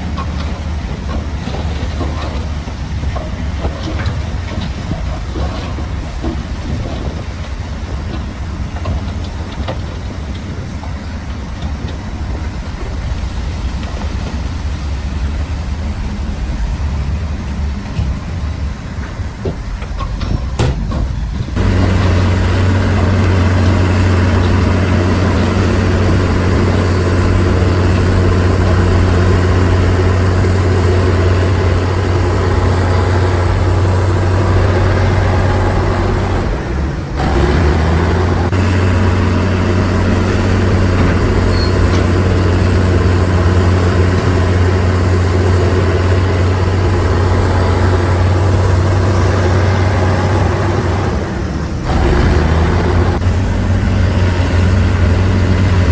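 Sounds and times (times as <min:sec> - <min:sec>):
heavy diesel engine droning: 0:00.0 - 0:55.9.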